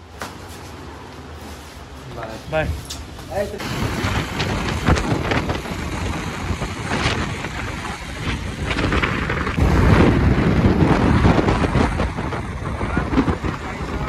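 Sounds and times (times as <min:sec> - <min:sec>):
road noise: 0:00.0 - 0:14.0
wind buffeting microphone: 0:02.2 - 0:14.0.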